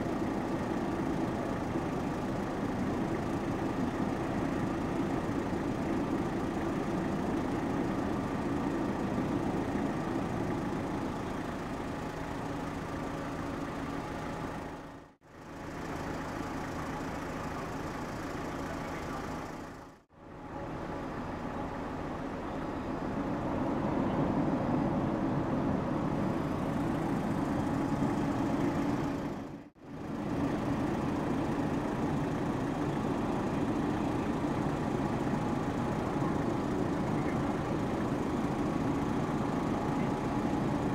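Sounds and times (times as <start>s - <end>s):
ship engines droning: 0.0s - 40.9s.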